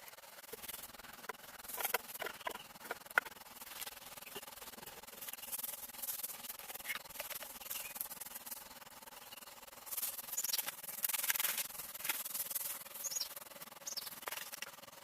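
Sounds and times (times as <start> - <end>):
rough scraping and rustling: 0.4 - 8.6, 9.8 - 14.8.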